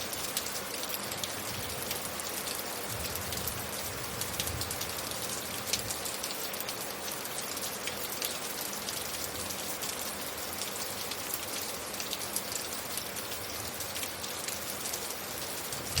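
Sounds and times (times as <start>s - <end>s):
steady rain pattering: 0.0s - 16.0s.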